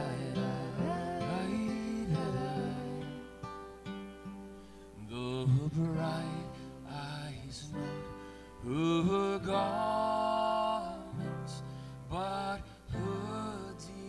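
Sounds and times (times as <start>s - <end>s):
man singing: 0.0s - 3.4s, 5.0s - 14.0s
acoustic guitar: 0.0s - 14.0s.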